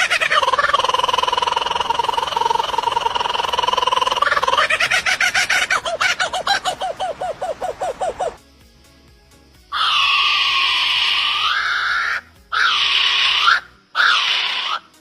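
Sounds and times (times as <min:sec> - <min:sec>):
bird calling loudly: 0:00.0 - 0:08.4, 0:09.7 - 0:15.0.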